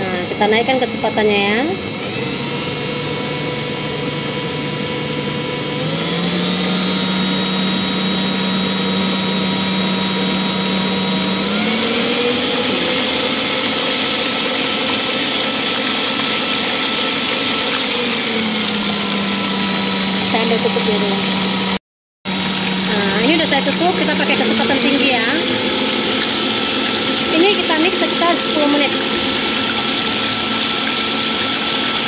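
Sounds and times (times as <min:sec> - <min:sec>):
electric mixer whining: 0:00.0 - 0:32.0.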